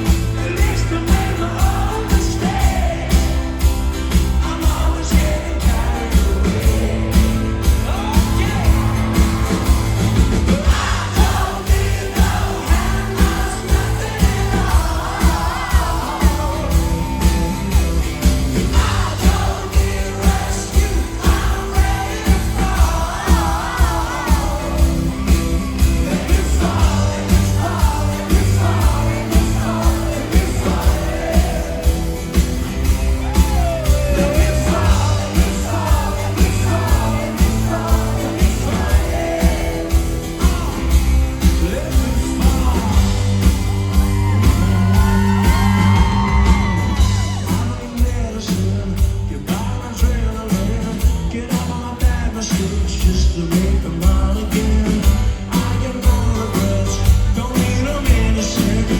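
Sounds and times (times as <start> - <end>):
crowd shouting and whooping: 0.0 - 48.5
lead vocal singing: 0.0 - 58.9
live band playing pop-rock: 0.0 - 58.9
steady drum beat: 0.0 - 58.9.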